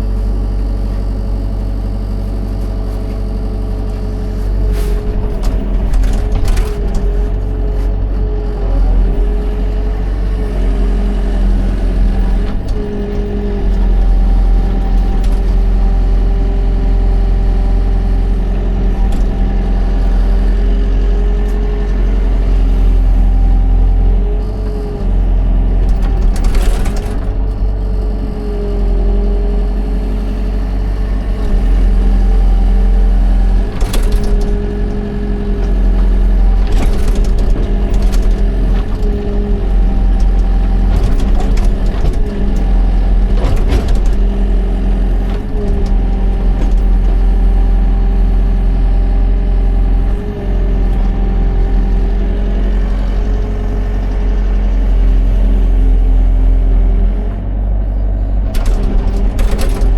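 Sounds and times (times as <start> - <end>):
excavator diesel engine running: 0.0 - 59.9
hydraulic whine: 0.0 - 59.9.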